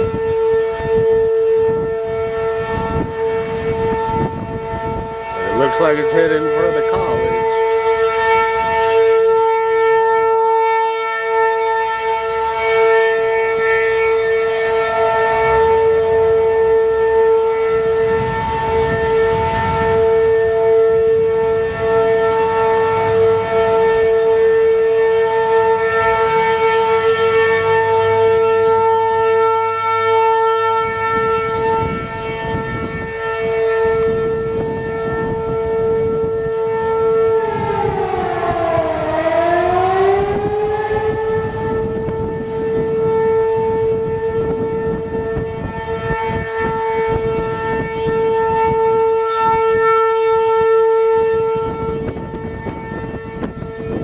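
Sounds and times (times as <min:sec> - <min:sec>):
wind rush on microphone: 0:00.0 - 0:10.8, 0:11.6 - 0:54.0
siren wailing: 0:00.0 - 0:54.0.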